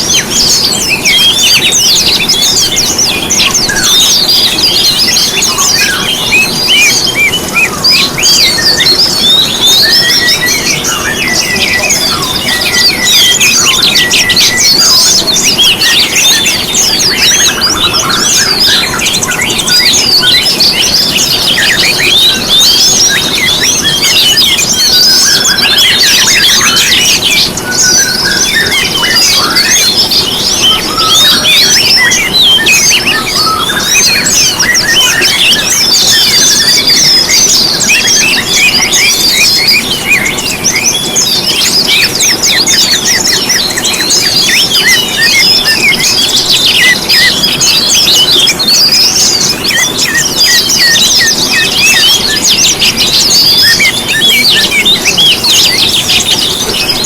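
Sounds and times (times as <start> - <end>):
songbirds twittering and chirping: 0.0 - 57.0.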